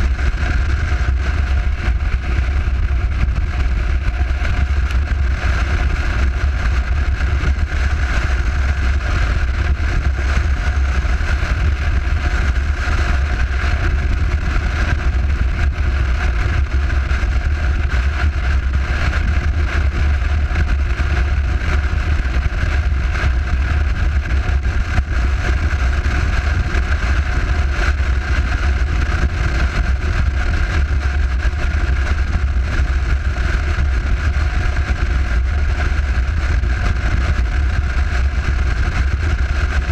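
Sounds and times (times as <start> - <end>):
motorcycle engine: 0.0 - 39.9
road noise: 0.0 - 39.9
wind buffeting camera: 0.0 - 39.9.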